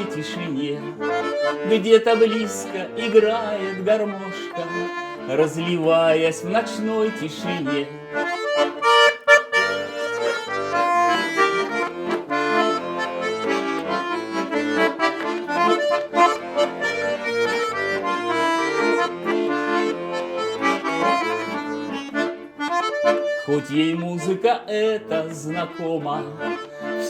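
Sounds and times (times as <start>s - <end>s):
button accordion playing: 0.0s - 27.0s.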